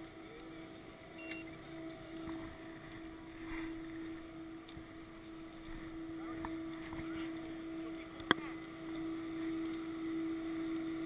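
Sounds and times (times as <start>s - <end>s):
chairlift machinery hum: 0.0s - 11.0s.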